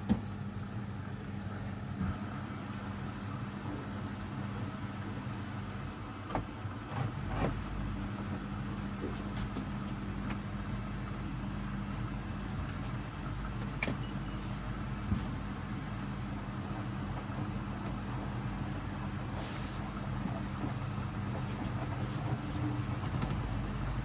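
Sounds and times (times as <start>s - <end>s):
washing machine motor hum: 0.0s - 24.0s.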